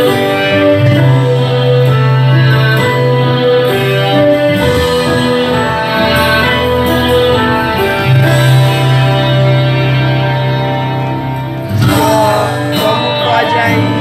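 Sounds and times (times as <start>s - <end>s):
gospel hymn with guitar and bass: 0.0s - 14.0s.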